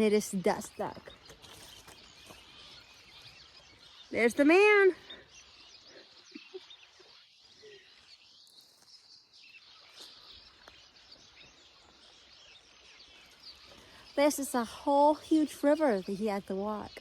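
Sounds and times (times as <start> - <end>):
birds chirping: 0.0 - 17.0
faint outdoor ambience: 0.0 - 17.0.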